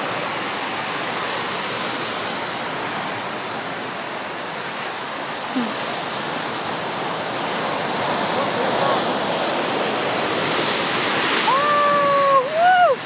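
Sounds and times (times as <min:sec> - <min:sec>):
ocean surf crashing: 0:00.0 - 0:13.0.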